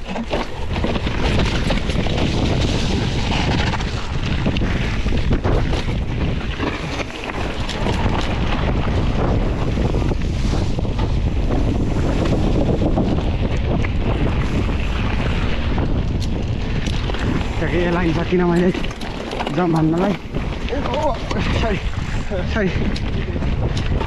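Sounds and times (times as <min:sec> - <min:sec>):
bike rattling over bumps: 0:00.0 - 0:24.0
tyres rumbling on gravel: 0:00.0 - 0:24.0
wind buffeting microphone: 0:00.0 - 0:24.0.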